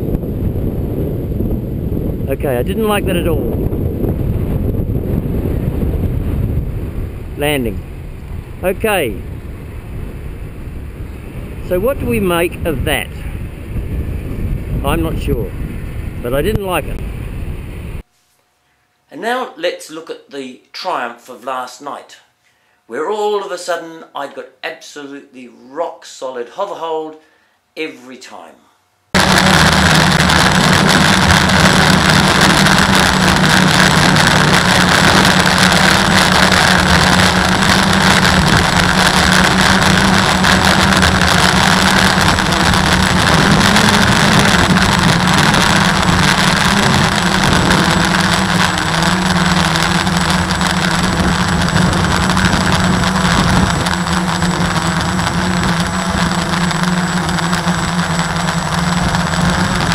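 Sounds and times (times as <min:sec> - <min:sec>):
quadcopter motors buzzing: 0:00.0 - 0:18.0, 0:29.2 - 0:59.9.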